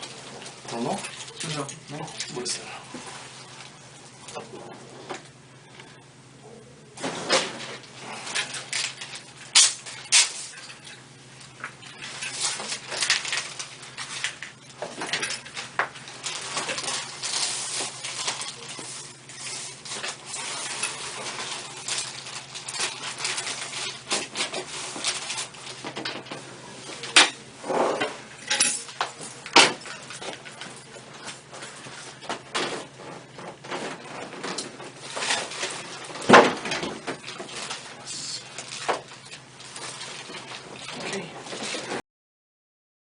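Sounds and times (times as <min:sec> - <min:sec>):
low steady hum: 0:00.0 - 0:42.0
rustling: 0:07.0 - 0:42.0.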